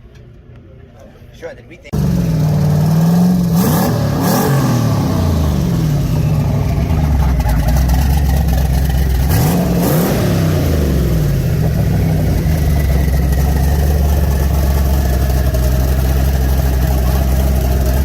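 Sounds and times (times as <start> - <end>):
car engine idling and revving: 1.9 - 18.0.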